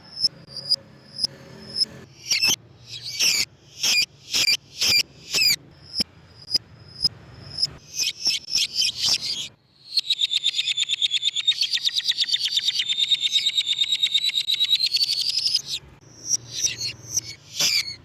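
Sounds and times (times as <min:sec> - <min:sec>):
bird chattering trill: 0:00.0 - 0:18.0
short sharp bird chirps: 0:00.4 - 0:18.0.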